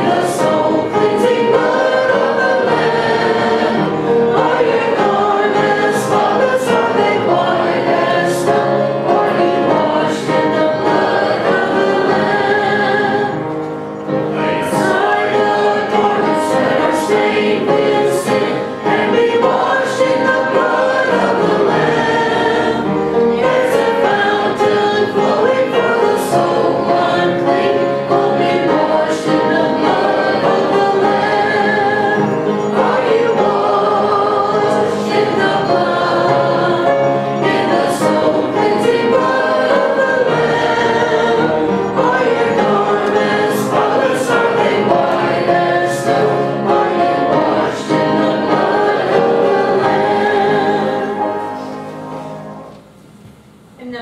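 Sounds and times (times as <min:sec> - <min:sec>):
musical accompaniment: 0:00.0 - 0:53.8.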